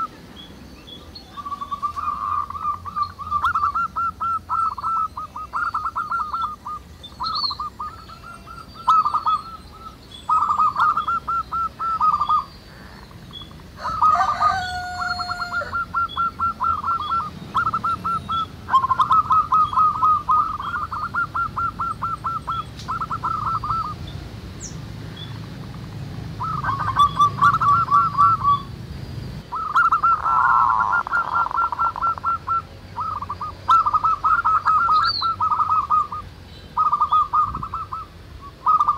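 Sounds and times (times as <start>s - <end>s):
doves cooing: 0.0s - 0.3s, 1.0s - 24.1s, 24.9s - 28.8s, 29.4s - 38.9s
harsh bird call: 0.0s - 25.5s, 26.3s - 28.7s, 29.4s - 38.9s
small birds chirping: 0.0s - 38.9s.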